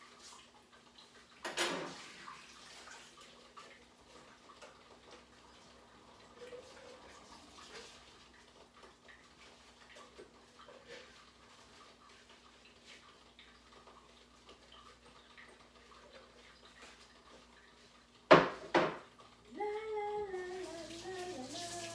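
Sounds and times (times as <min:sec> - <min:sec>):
dish washing clicks and clatter: 0:00.0 - 0:21.9.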